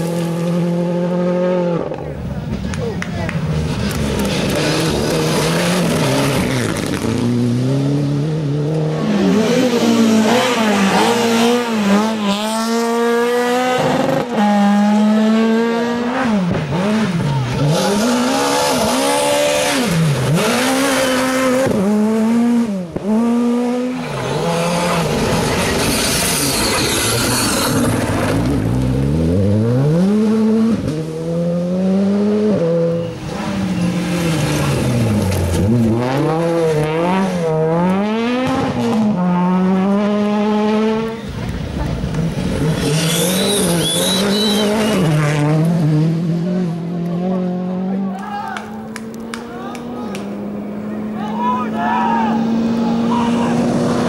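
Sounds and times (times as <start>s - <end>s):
rally car engines revving hard: 0.0s - 54.0s.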